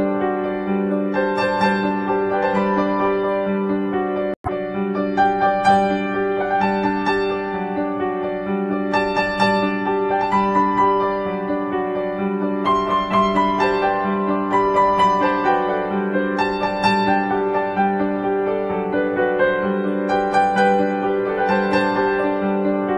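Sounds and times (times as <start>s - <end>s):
piano music: 0.0s - 22.9s.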